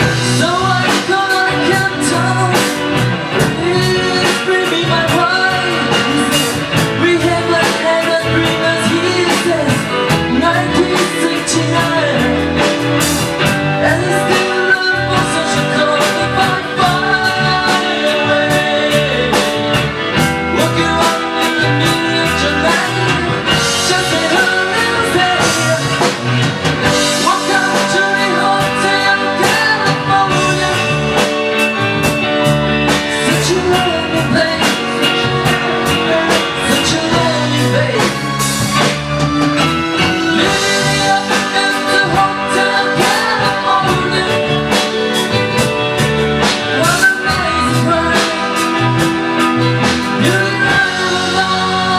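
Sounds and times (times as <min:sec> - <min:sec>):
electric guitar: 0:00.0 - 0:51.9
person singing: 0:00.0 - 0:51.9
steady drum beat: 0:00.0 - 0:51.9.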